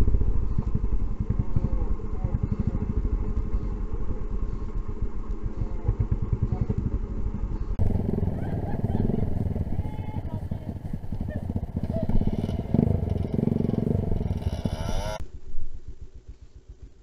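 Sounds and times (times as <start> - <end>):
motorcycle engines running: 0.0 - 15.2.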